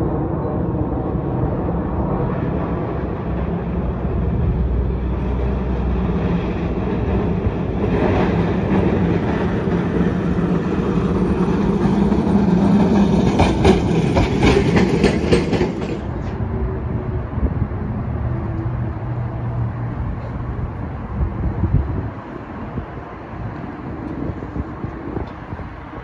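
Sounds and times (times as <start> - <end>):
electric streetcar passing: 0.0 - 26.0
wheels clacking on rails: 0.1 - 26.0.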